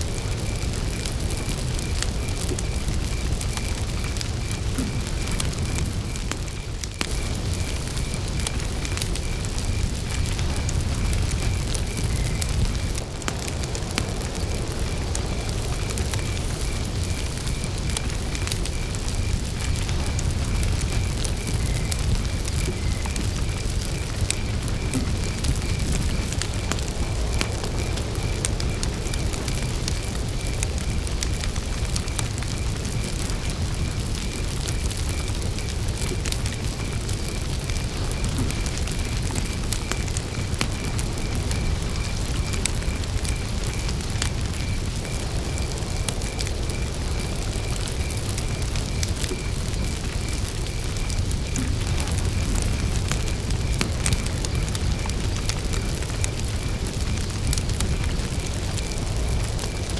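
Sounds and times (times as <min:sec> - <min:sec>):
campfire crackling: 0:00.0 - 0:59.9
cricket chirping: 0:00.0 - 0:59.9.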